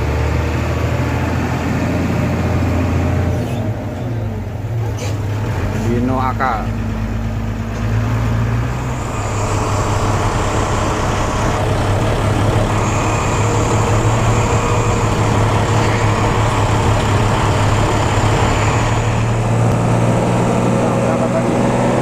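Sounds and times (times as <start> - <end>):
bus engine droning: 0.0 - 22.0
road and traffic noise: 0.0 - 22.0.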